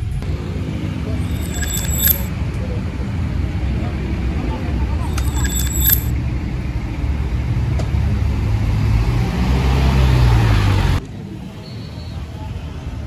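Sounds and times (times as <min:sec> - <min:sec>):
car engines running: 0:00.0 - 0:11.5
tyres on road: 0:00.0 - 0:13.0.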